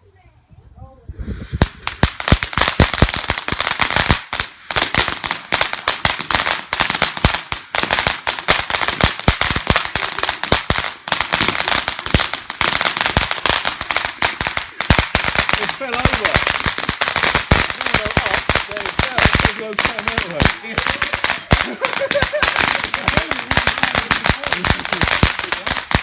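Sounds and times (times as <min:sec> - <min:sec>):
fireworks cracks and bangs: 0:01.5 - 0:26.0.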